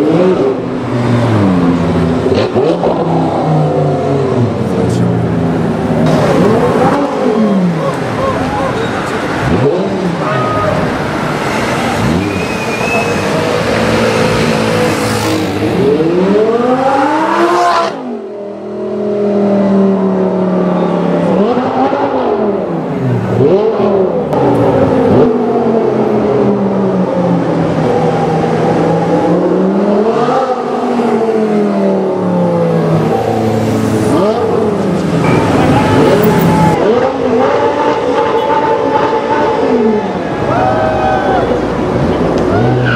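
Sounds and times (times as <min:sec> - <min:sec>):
car engine revving: 0:00.0 - 0:40.6.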